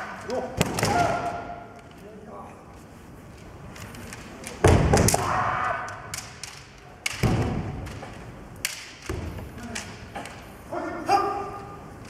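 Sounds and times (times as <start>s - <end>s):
bamboo swords clacking: 0.0s - 2.0s, 2.8s - 10.6s.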